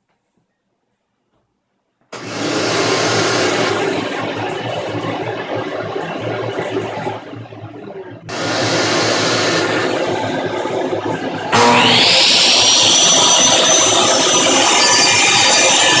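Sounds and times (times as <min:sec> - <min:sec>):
shop vac running: 0:02.1 - 0:07.4, 0:08.2 - 0:16.0.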